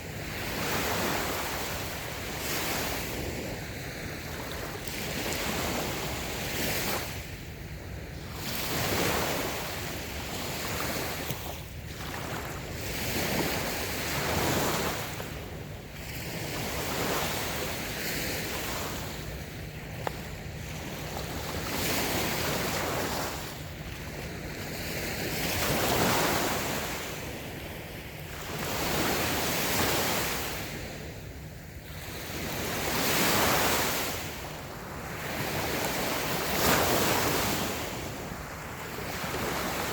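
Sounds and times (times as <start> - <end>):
waves washing onto sandy beach: 0.0 - 39.9.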